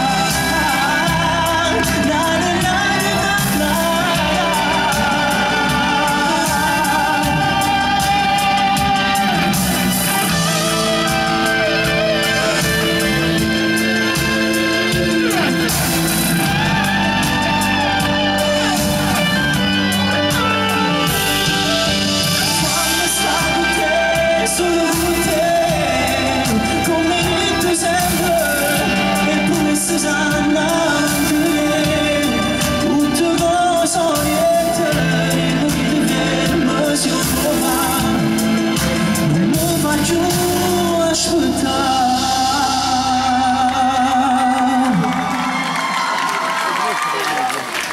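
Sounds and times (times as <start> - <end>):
man singing into a microphone: 0.0 - 45.7
live pop band playing: 0.0 - 47.9.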